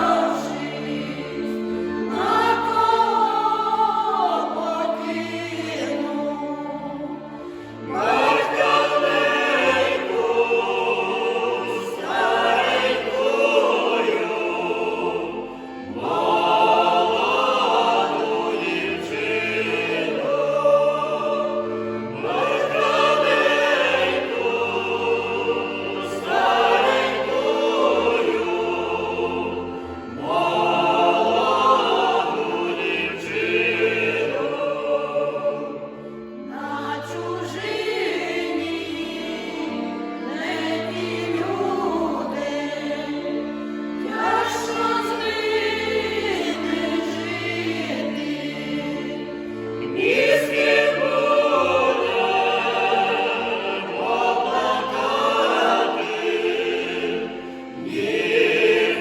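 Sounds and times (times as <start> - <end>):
choir singing folk song: 0.0 - 59.0.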